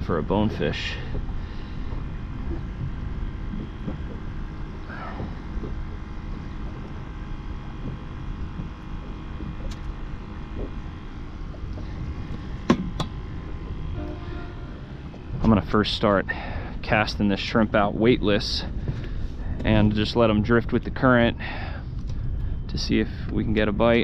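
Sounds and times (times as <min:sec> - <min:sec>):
boat low rumble with hum: 0:00.0 - 0:24.0.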